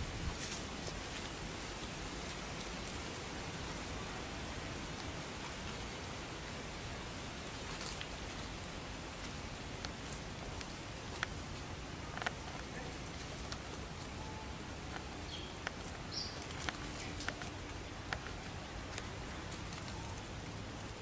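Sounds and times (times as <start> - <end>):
steady forest hiss: 0.0 - 21.0.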